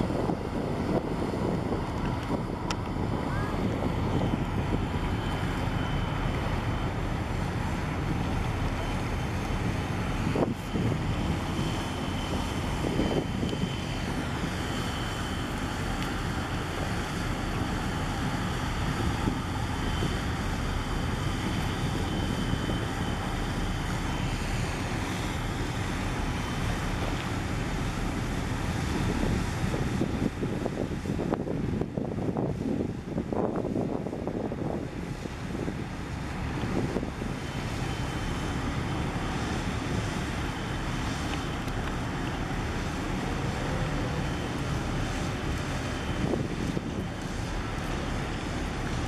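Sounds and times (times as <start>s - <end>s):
faint high whine: 0.0s - 32.8s, 35.5s - 49.0s
boat engine low rumble: 0.0s - 49.0s
wind buffeting microphone: 0.0s - 49.0s.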